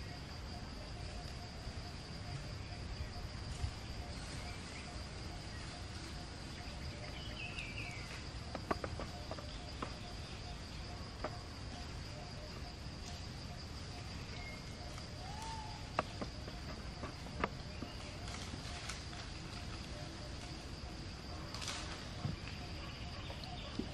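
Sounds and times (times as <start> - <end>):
insects droning: 0.0 - 23.9.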